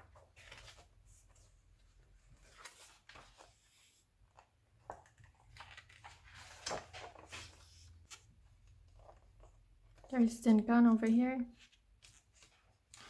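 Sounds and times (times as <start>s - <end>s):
magazine pages rustling: 0.1s - 13.0s.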